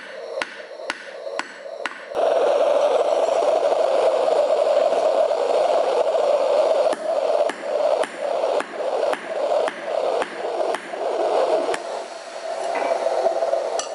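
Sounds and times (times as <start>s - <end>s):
gas torch flame hissing: 0.0s - 13.9s.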